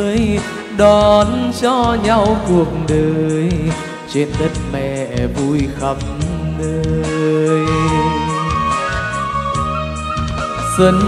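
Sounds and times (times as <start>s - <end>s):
person singing: 0.0s - 9.0s, 10.5s - 11.0s
slow pop ballad instrumental: 0.0s - 11.0s.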